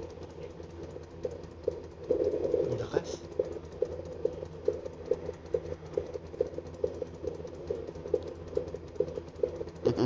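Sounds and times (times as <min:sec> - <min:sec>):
device hiss and hum: 0:00.0 - 0:10.0
fetal heartbeat pulse: 0:00.0 - 0:10.0.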